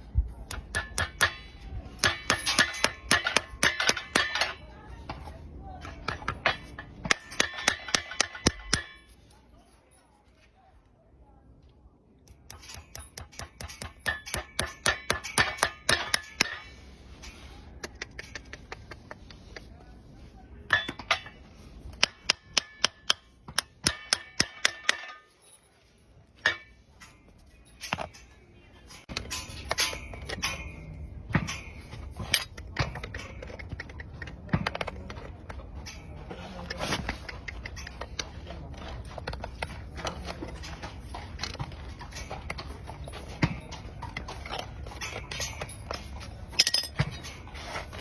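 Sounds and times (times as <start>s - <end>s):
low steady background noise: 0.0s - 48.0s
metal tools clinking on hoof: 0.1s - 11.0s, 12.2s - 48.0s.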